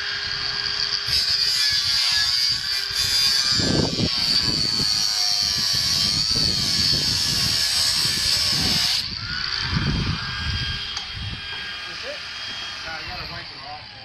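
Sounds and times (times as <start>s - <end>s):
power saw screeching through panel: 0.0s - 14.0s
whining motor: 0.0s - 14.0s.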